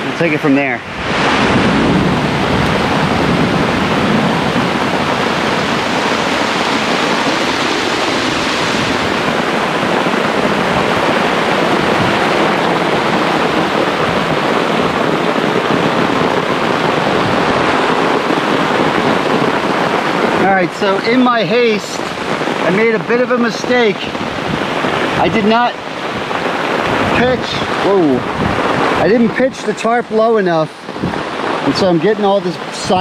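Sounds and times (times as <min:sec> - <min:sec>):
heavy rain: 0:00.0 - 0:33.0
wind: 0:00.0 - 0:33.0.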